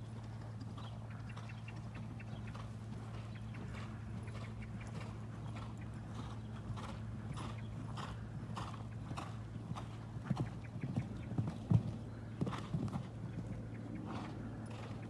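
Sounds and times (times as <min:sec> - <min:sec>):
hoofbeats on sand: 0:00.0 - 0:15.0
steady low hum: 0:00.0 - 0:15.0.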